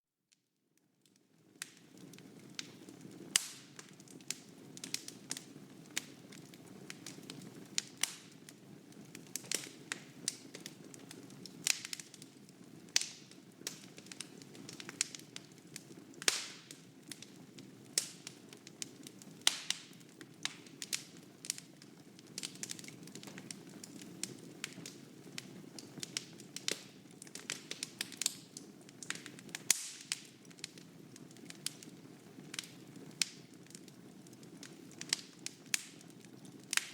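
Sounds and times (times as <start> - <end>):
wood fire crackling and popping: 1.0 - 36.9.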